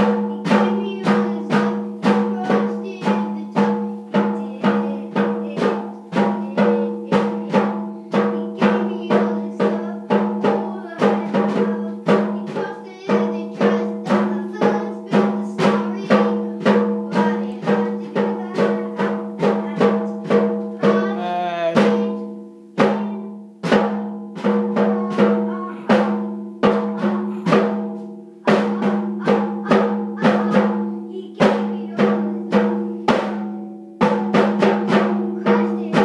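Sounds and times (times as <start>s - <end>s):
toy drums beaten with sticks: 0.0s - 36.0s.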